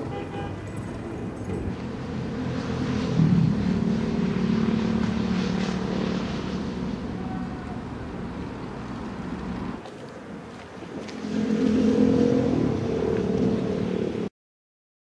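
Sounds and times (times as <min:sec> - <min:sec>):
armoured vehicle engine driving: 0:00.0 - 0:14.3.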